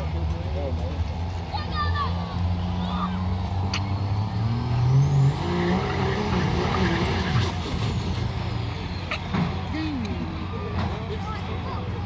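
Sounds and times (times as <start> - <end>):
diesel engine revving: 1.1 - 12.0.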